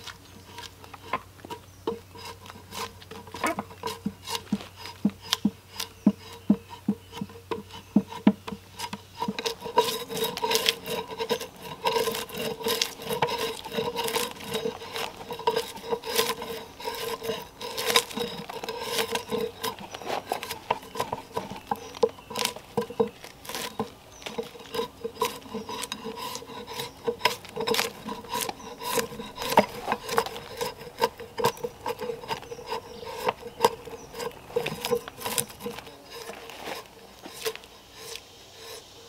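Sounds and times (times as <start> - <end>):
drawknife scraping bark: 0.0 - 39.0.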